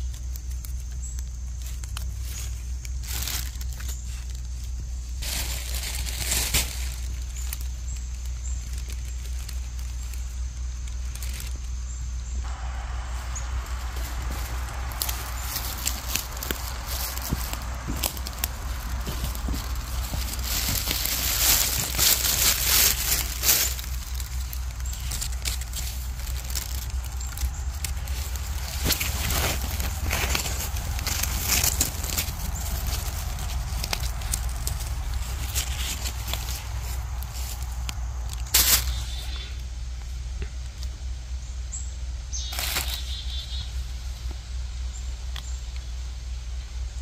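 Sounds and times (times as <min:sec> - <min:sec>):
pine needles rustling: 0:00.0 - 0:41.4, 0:42.2 - 0:47.0
low rumble: 0:03.0 - 0:47.0.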